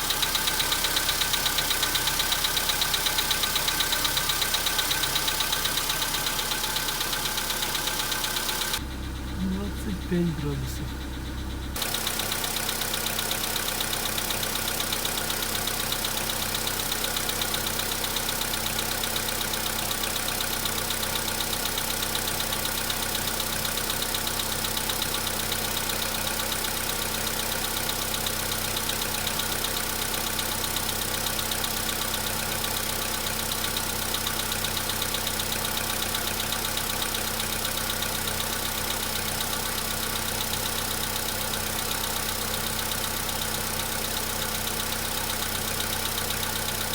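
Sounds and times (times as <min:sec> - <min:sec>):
cold car engine knocking: 0:00.0 - 0:09.3, 0:11.1 - 0:46.9.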